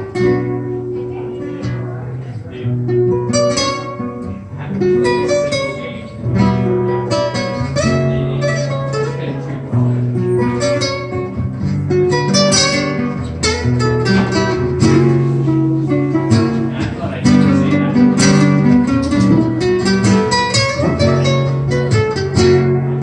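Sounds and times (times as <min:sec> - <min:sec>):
acoustic guitar strumming: 0:00.0 - 0:23.0
picked guitar melody: 0:00.0 - 0:23.0.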